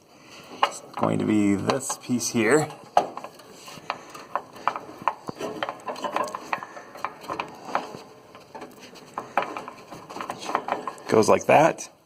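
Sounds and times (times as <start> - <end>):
small metal parts clicking and tapping: 0.6 - 11.3.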